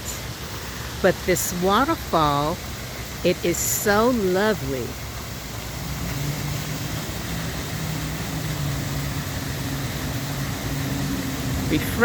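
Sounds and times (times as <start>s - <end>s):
fountain water rushing: 0.0s - 12.0s
low mechanical hum: 0.0s - 12.0s.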